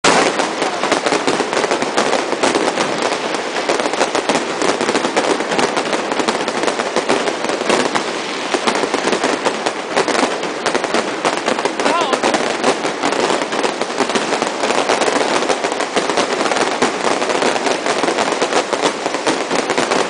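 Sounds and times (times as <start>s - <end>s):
fireworks crackling: 0.0s - 20.0s.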